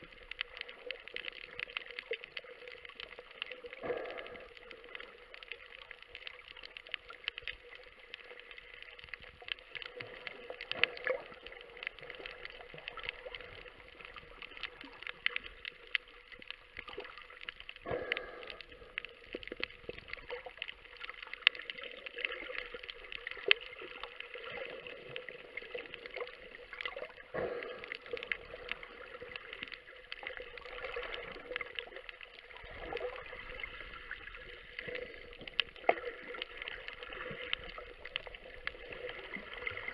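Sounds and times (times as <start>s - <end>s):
underwater crackle of clicks: 0.0s - 39.9s
water rushing: 0.0s - 39.9s.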